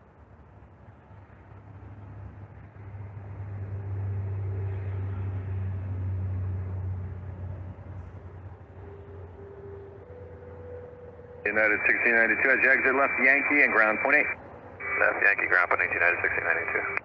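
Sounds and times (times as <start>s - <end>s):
jet airliner low rumble: 0.0s - 17.0s.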